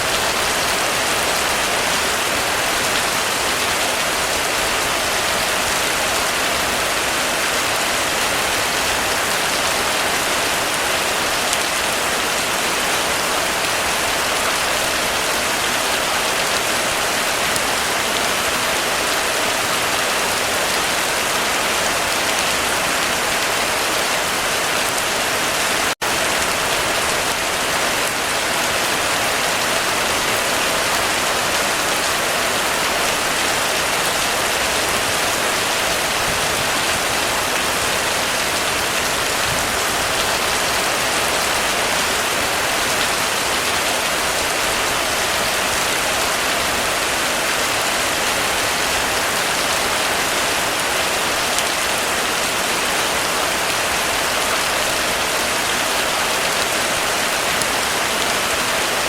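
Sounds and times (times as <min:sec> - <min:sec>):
heavy rain drumming on a roof: 0:00.0 - 0:59.0.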